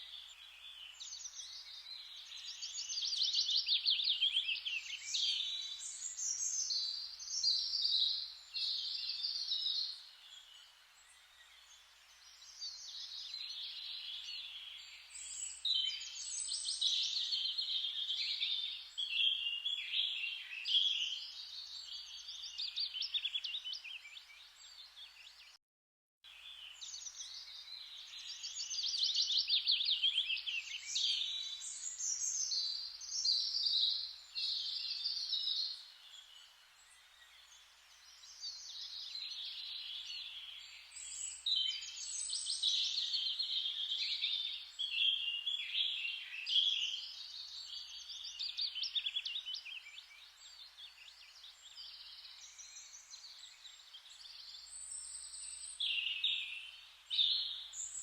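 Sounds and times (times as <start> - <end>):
songbirds chirping and trilling: 0.0 - 25.6, 26.3 - 58.0.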